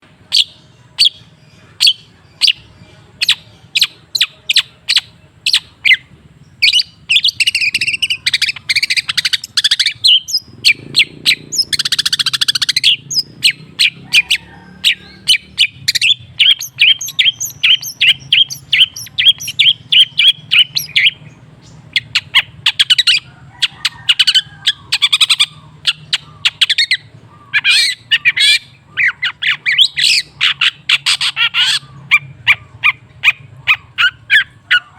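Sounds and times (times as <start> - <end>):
bird harsh chattering: 0.2 - 34.9.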